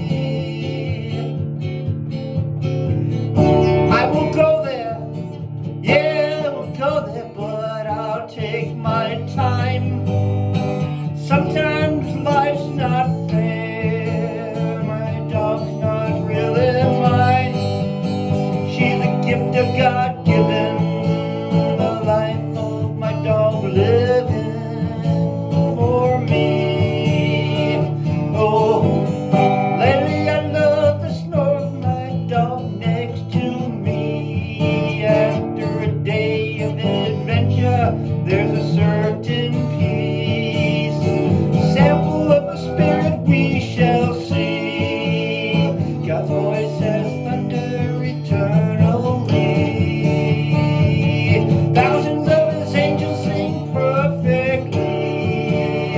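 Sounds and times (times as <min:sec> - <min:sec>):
country instrumental music: 0:00.0 - 0:55.9
strummed acoustic guitar: 0:00.0 - 0:55.9.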